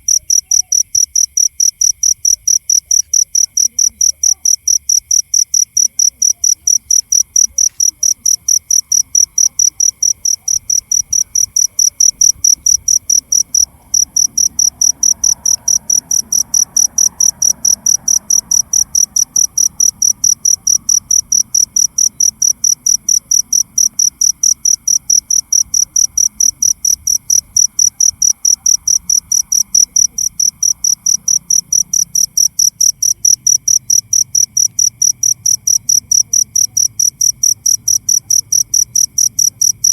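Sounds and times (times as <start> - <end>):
cricket chirping: 0.0 - 39.9
faint insect hum: 0.0 - 39.9.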